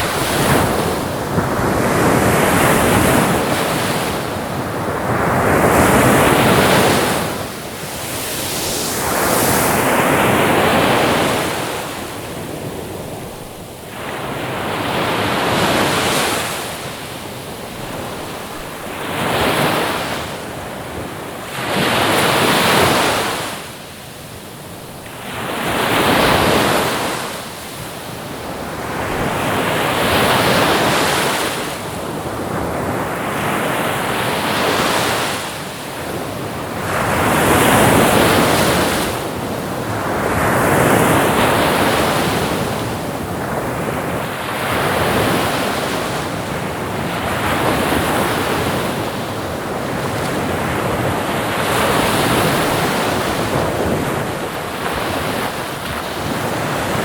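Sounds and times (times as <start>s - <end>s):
ocean waves breaking: 0.0s - 23.6s, 28.3s - 57.0s.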